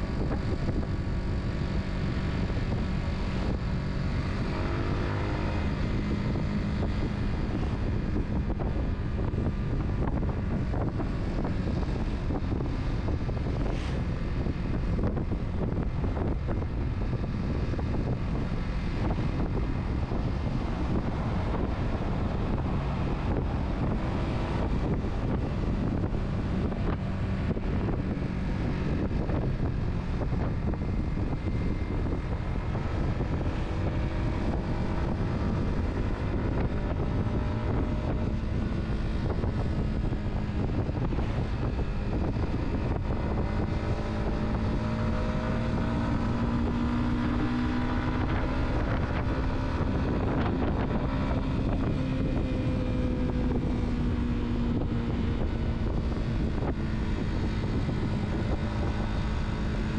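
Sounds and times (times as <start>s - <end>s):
car engine hum: 0.0s - 59.9s
tyre and road noise: 0.0s - 59.9s
wind: 0.0s - 59.9s.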